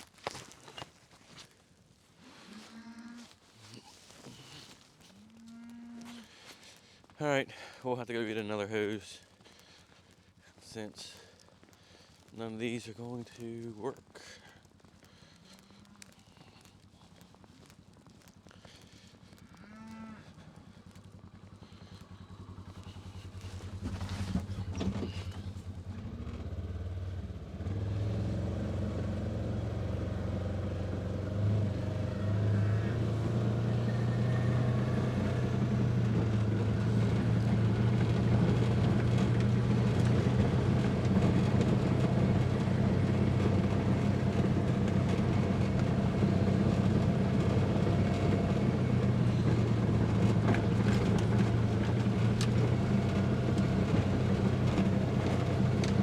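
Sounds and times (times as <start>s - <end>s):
vehicle engine running: 6.0s - 56.0s.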